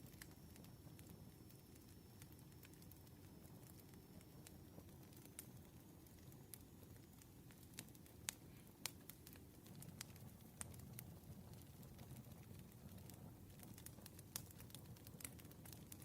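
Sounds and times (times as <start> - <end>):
campfire crackling: 0.0 - 16.0
low rumble of flames: 0.0 - 16.0.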